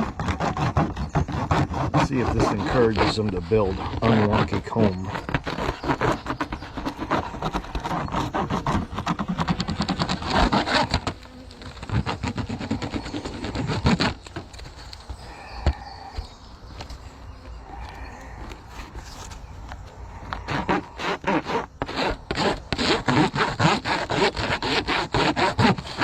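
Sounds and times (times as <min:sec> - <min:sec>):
honeybees buzzing: 0:00.0 - 0:26.0
rapid scraping and handling: 0:00.0 - 0:26.0.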